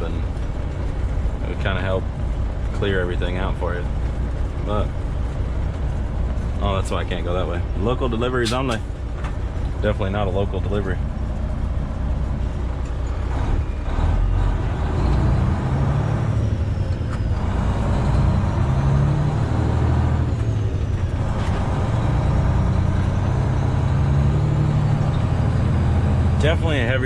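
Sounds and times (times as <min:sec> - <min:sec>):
truck diesel engine pulling: 0:00.0 - 0:27.0.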